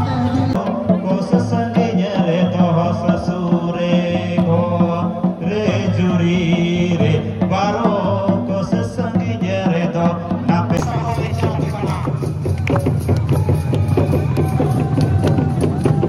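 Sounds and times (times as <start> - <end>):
hand drums beating: 0.4 - 16.0.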